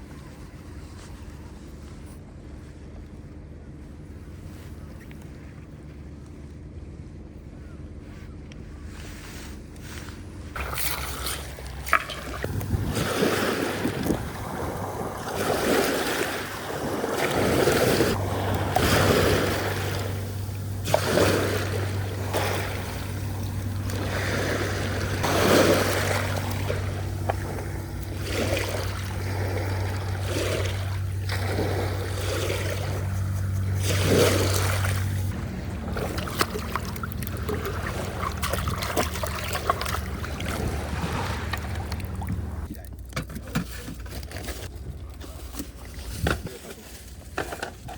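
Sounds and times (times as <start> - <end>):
steady low hum: 0.0 - 47.9
wind: 0.0 - 47.9
water sloshing around a kayak: 7.3 - 47.9.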